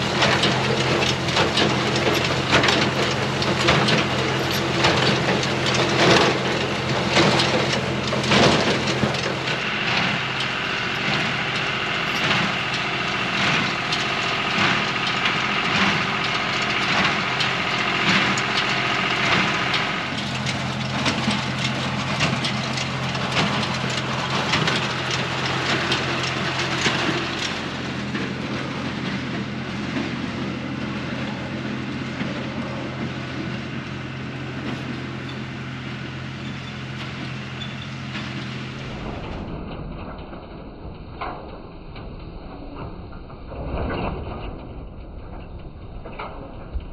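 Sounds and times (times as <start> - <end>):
baler knocking and crunching: 0.0 - 38.6
tractor engine running: 0.0 - 46.9.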